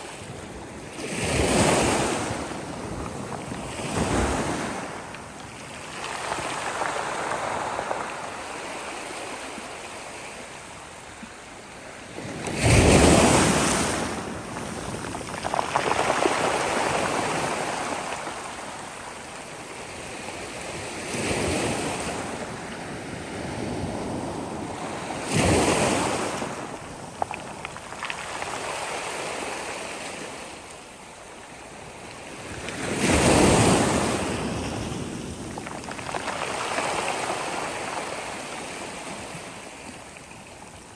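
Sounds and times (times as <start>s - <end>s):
big waves crashing: 0.0s - 10.0s, 12.2s - 30.5s, 32.5s - 39.8s.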